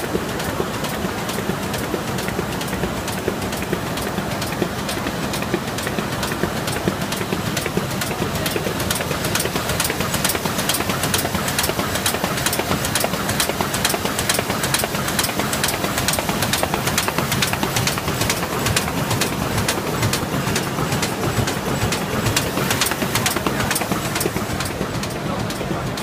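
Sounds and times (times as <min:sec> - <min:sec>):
machine rollers clattering: 0:00.0 - 0:26.0
rapid even clicking: 0:00.0 - 0:26.0.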